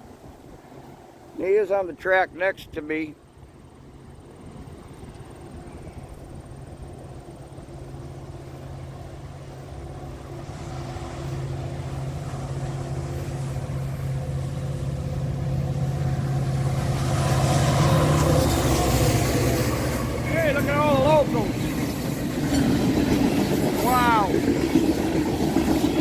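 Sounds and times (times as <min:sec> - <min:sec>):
diesel locomotive engine drone: 0:00.0 - 0:26.0
train wheel and rail noise: 0:00.0 - 0:26.0.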